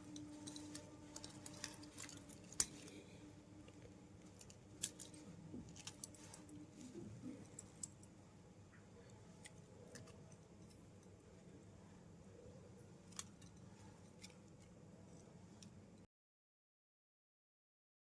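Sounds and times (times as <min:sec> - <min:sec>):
faint steady hum: 0:00.0 - 0:16.1.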